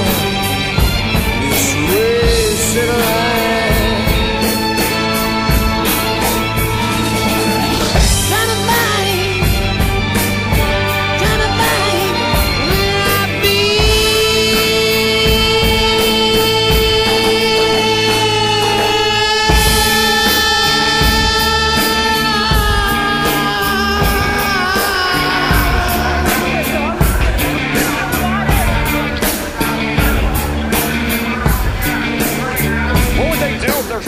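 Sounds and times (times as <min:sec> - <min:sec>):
rock music with singing: 0:00.0 - 0:34.0.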